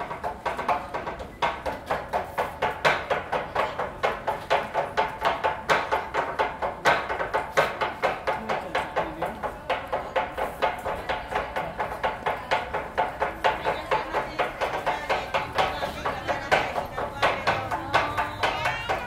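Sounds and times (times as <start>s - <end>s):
knives chopping on wooden board: 0.1s - 19.0s.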